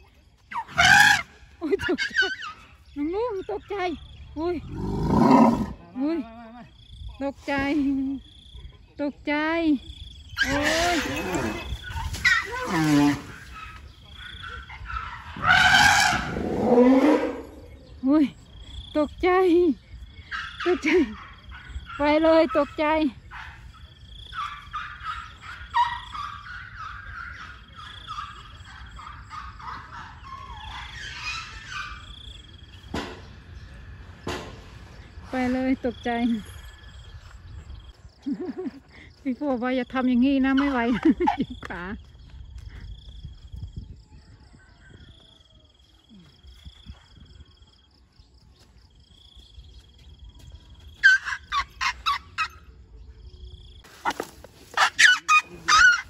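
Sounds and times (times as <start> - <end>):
birds calling: 0.0 - 5.8, 9.8 - 39.3, 46.4 - 56.0.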